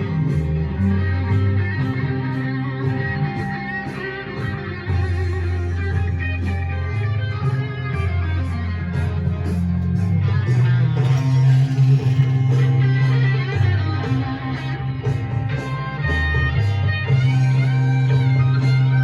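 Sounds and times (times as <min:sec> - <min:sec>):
guitar-led music: 0:00.0 - 0:19.0
held bass notes: 0:00.0 - 0:19.0
steady beat: 0:00.0 - 0:19.0.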